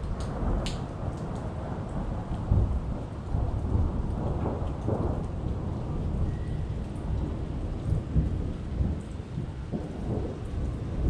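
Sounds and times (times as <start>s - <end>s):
rain on wet concrete: 0.0s - 11.0s
rolling thunder: 0.0s - 11.0s.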